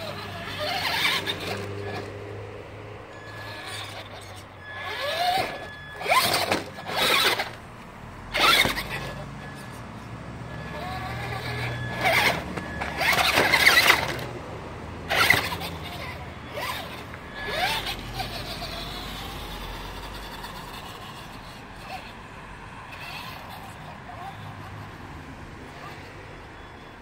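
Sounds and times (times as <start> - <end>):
toy truck motor whirring: 0.0 - 27.0.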